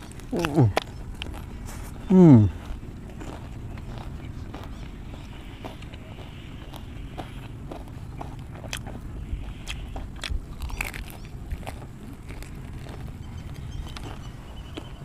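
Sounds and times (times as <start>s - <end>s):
person chewing crispy fried chicken: 0.0s - 15.0s.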